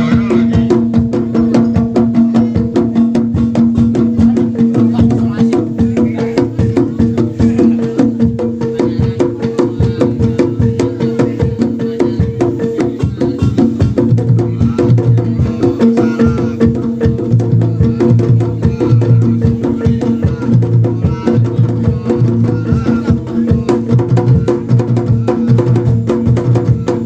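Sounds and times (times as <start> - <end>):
fast dense percussion: 0.0 - 27.0
ringing pitched tones: 0.0 - 27.0.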